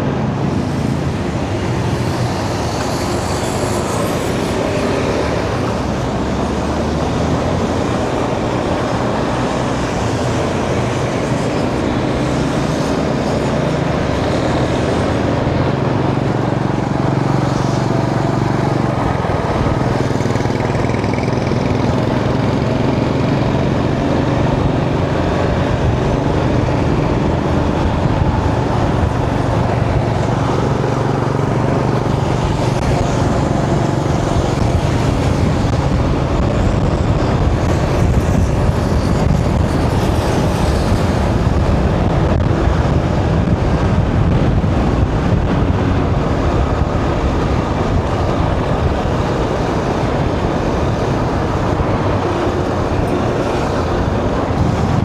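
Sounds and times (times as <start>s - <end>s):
motorcycle running at speed: 0.0s - 55.0s
road and traffic noise: 0.0s - 55.0s.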